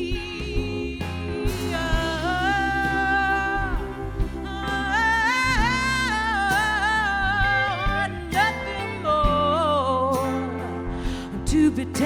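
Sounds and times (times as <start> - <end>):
band accompaniment with bass: 0.0 - 12.0
woman singing wordless notes: 0.0 - 12.0.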